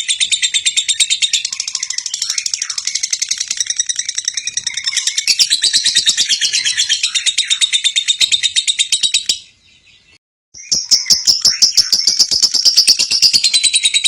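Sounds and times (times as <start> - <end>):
bird chattering trill: 0.0 - 9.5, 10.6 - 14.0.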